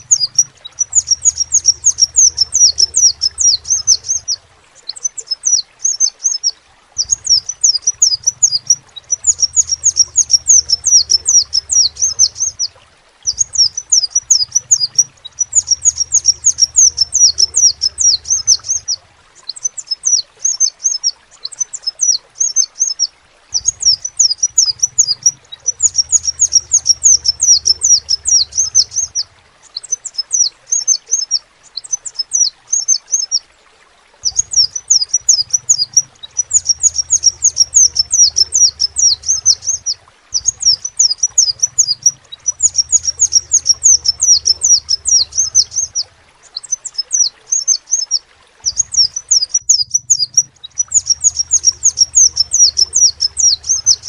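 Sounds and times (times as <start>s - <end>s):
bird chirping: 0.0s - 33.4s, 34.2s - 54.0s.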